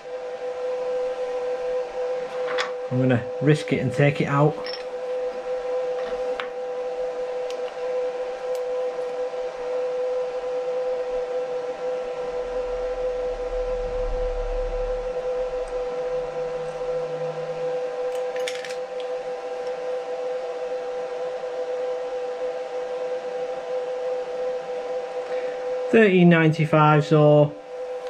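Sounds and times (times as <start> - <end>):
milling machine whining: 0.0 - 28.0.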